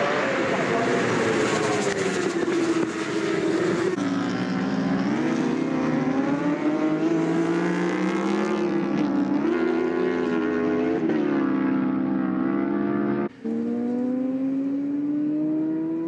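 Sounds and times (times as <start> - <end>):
racing motorcycles running hard: 0.0 - 16.0.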